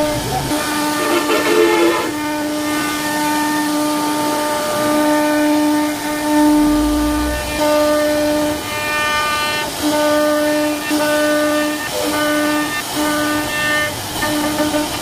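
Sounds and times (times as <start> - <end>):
router spindle whining: 0.8 - 14.2.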